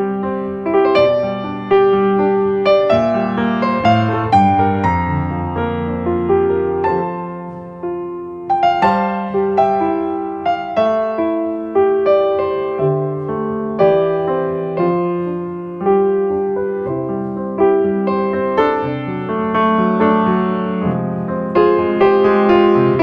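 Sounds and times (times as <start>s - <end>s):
piano ringtone melody: 0.0s - 23.0s.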